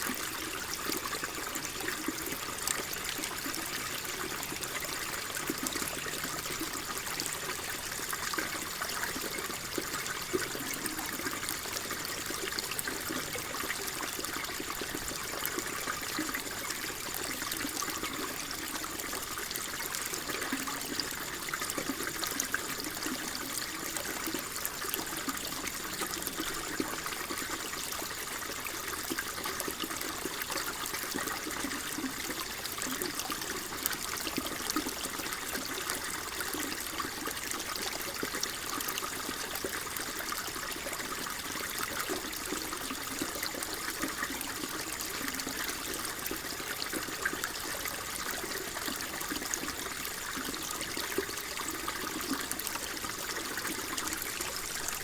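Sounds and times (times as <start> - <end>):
water flowing and trickling: 0.0 - 55.0.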